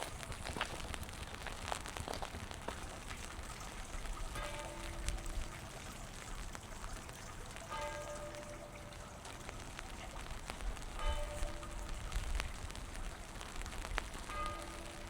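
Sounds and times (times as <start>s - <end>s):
rain on wet pavement: 0.0s - 15.0s.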